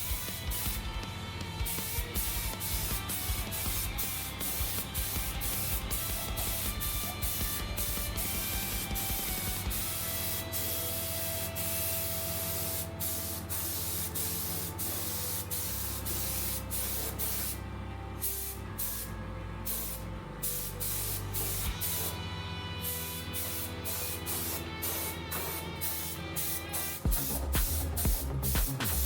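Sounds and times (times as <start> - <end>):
spray paint hissing: 0.0 - 0.9, 1.6 - 17.6, 18.2 - 19.1, 19.7 - 22.2, 22.8 - 29.0.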